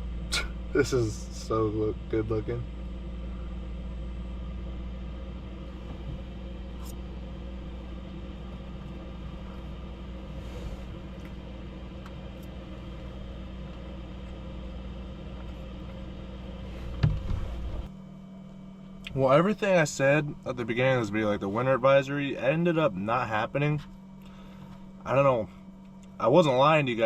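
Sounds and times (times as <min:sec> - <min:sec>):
motor rumbling and humming: 0:00.0 - 0:27.0.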